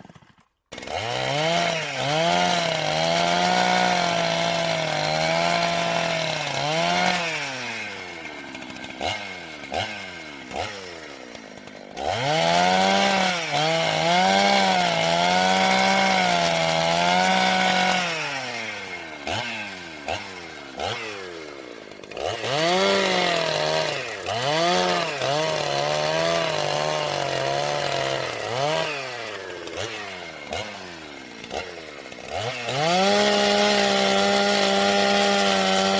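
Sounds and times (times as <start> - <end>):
chainsaw engine revving: 0.0 - 35.9.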